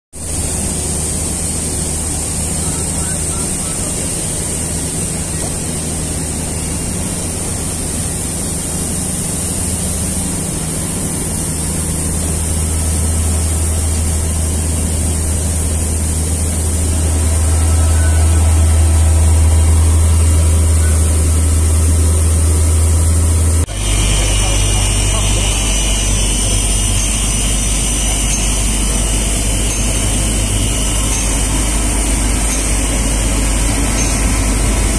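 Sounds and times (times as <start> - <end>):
high hiss: 0.2 - 34.9
low machinery hum: 0.2 - 34.9.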